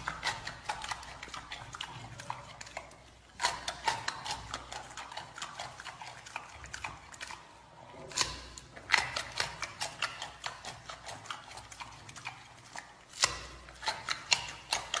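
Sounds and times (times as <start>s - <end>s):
panda chewing and smacking: 0.0s - 15.0s.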